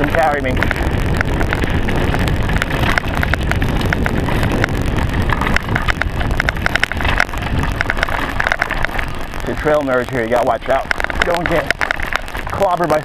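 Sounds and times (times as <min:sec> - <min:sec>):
bike clicks and rattles: 0:00.0 - 0:13.0
wind rumble on microphone: 0:00.0 - 0:13.0.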